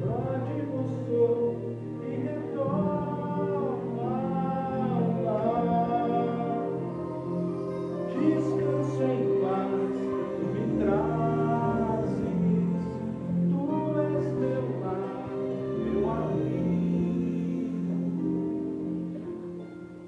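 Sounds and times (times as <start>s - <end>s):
group singing in harmony: 0.0s - 19.7s
instrumental accompaniment: 0.0s - 20.0s.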